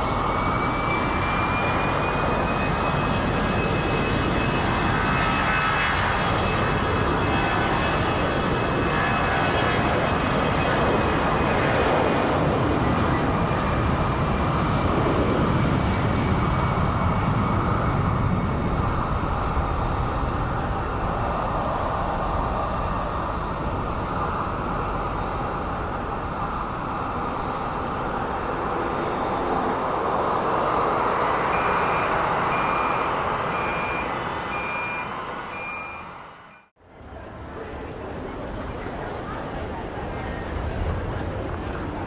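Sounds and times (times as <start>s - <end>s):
airliner engines rumbling: 0.0s - 42.0s.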